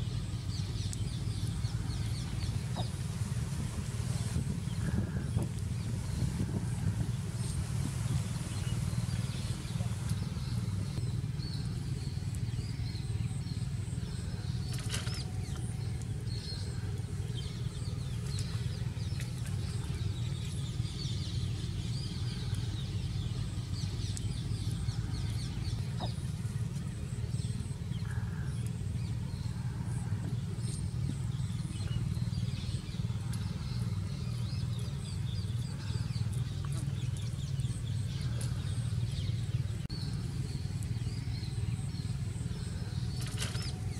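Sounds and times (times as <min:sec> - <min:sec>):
low background hum: 0:00.0 - 0:43.9.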